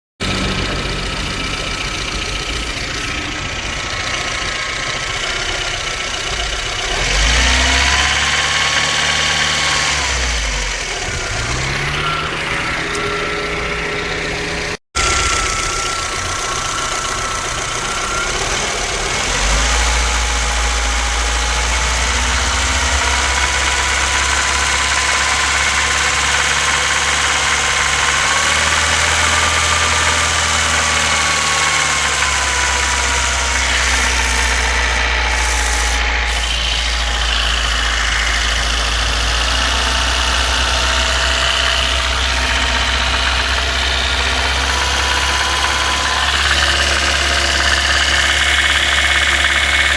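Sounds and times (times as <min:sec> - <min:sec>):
car engine running with whine: 0:00.2 - 0:49.9.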